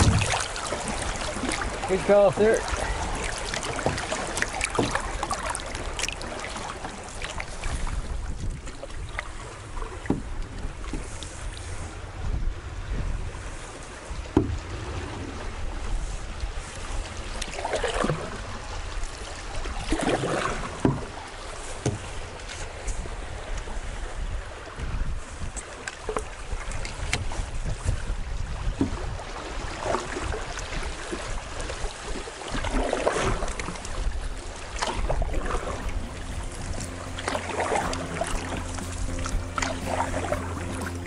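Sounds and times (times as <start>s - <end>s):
paddle strokes in water: 0.0s - 41.0s
water swishing along hull: 0.0s - 41.0s
wind rumble on microphone: 0.0s - 41.0s.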